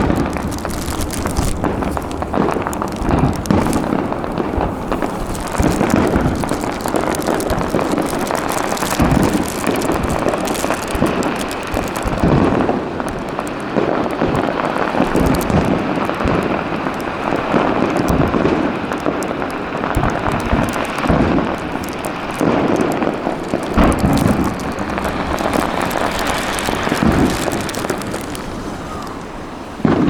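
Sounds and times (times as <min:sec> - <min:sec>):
firework shells booming: 0:00.0 - 0:30.0
fireworks crackling: 0:00.0 - 0:30.0.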